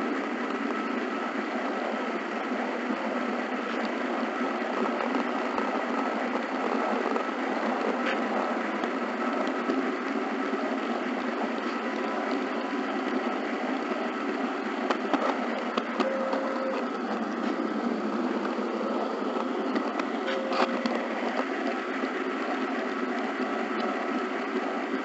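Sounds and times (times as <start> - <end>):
wheels rolling on rails: 0.0 - 25.0.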